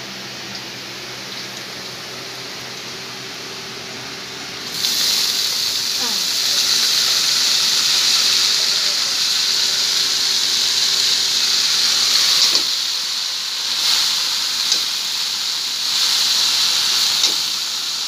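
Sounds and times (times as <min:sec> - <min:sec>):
greens sizzling in hot oil: 0:00.3 - 0:18.0.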